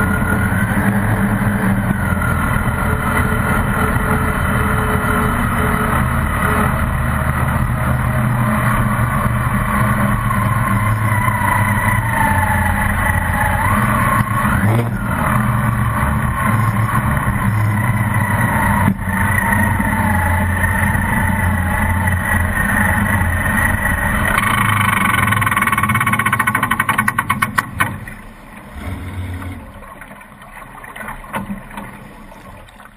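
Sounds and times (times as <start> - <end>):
boat engine running hard: 0.0 - 30.3
engine popping: 0.0 - 32.0.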